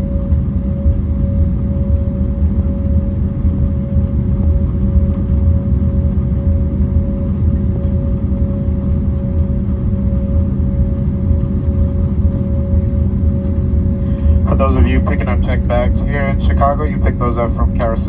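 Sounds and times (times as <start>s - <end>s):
aircraft engines rumbling: 0.0s - 18.0s
constant cabin hum: 0.0s - 18.0s.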